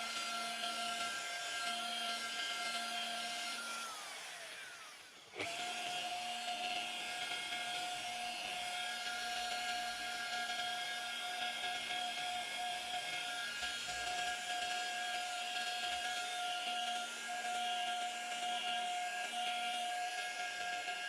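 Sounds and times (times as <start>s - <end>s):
rotary power tool whining: 0.0s - 21.0s.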